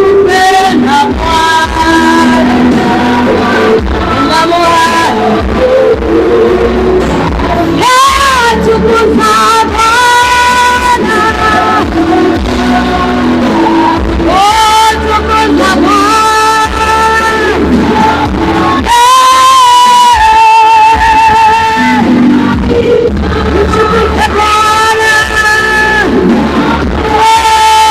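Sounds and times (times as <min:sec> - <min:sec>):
band accompaniment: 0:00.0 - 0:27.9
voices singing with vibrato: 0:00.0 - 0:27.9.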